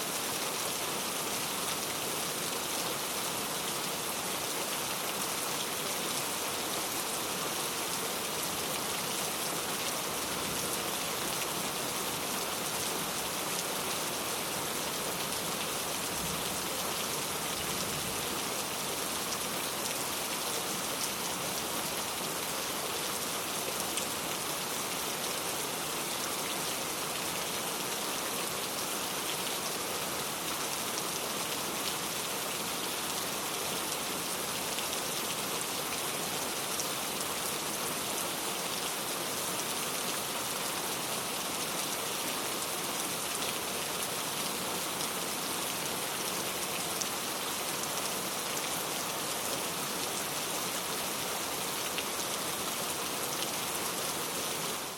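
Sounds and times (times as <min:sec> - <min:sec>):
steady rain hissing: 0:00.0 - 0:54.9.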